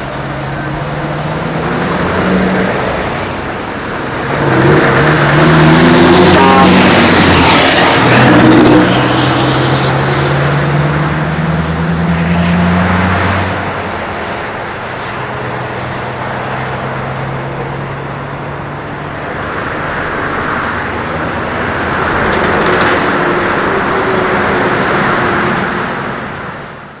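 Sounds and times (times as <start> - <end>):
vehicle passing: 0.0 - 26.8
truck diesel engine pulling away: 0.0 - 26.9
road traffic noise: 0.0 - 27.0.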